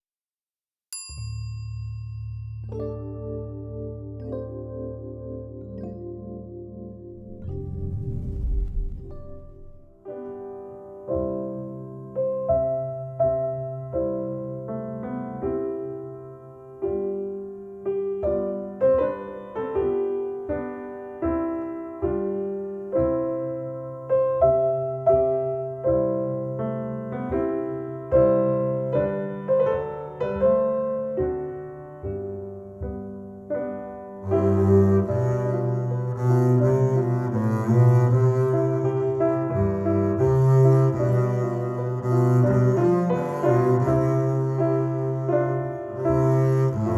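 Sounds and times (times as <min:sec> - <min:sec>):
piano music over loudspeakers: 0:02.6 - 0:46.9.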